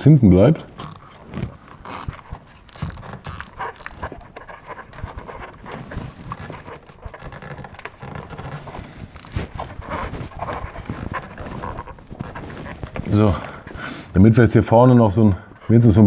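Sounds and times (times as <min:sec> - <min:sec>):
gloved hands rustling wiring: 0:00.7 - 0:14.2.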